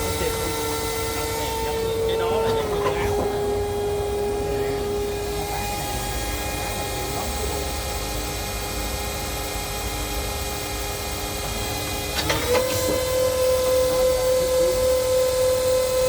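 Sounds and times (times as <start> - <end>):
lathe machine whine: 0.0 - 16.0.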